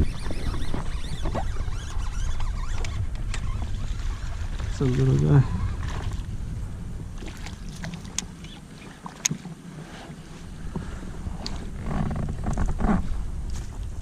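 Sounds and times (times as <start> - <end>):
wind noise on microphone: 0.0 - 8.6, 9.9 - 14.0.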